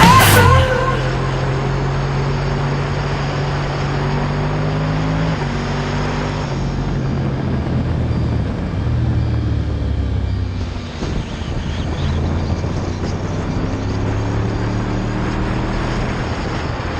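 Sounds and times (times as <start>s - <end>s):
wind and road noise: 1.2s - 16.9s.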